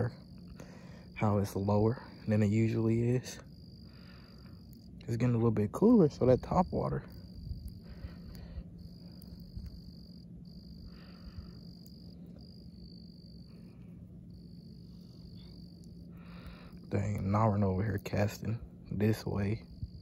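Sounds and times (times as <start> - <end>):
high insect trill: 0.0 - 20.0.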